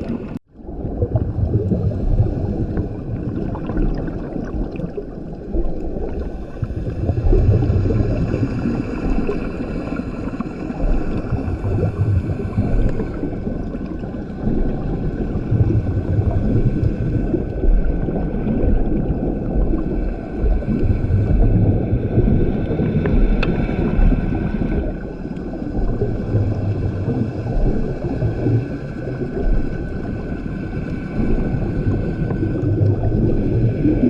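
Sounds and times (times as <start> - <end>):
bubbles from exhalation: 0.0 - 30.2
diver breathing through regulator: 6.2 - 34.0.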